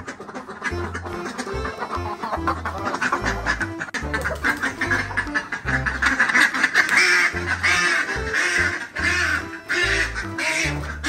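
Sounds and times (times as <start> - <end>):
background music: 0.0 - 11.0
ducks quacking: 0.0 - 11.0.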